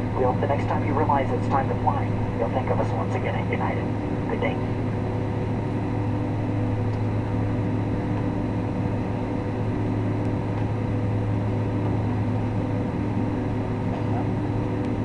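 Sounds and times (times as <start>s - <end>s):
air-conditioning hum: 0.0s - 15.0s
jet engines idling: 0.0s - 15.0s.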